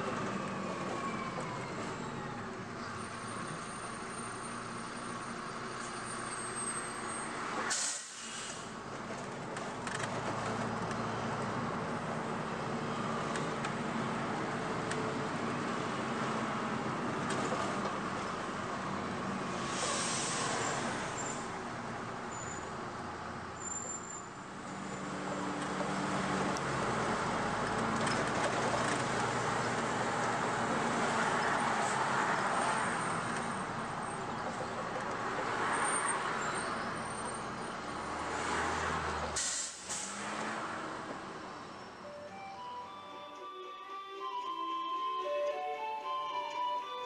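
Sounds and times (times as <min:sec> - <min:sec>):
bus diesel engine: 0:00.0 - 0:47.0
road noise: 0:00.0 - 0:47.0.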